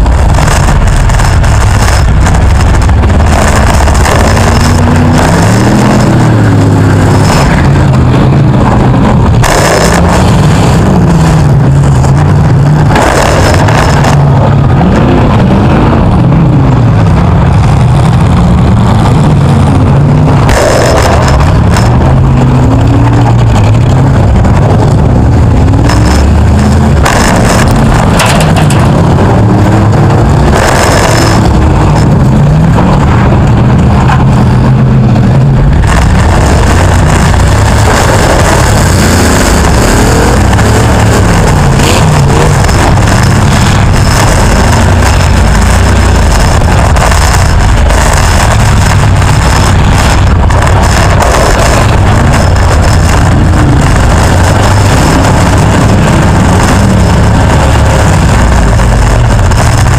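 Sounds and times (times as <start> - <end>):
car engine revving: 0.0 - 59.9
loud crashing bursts: 0.0 - 59.9.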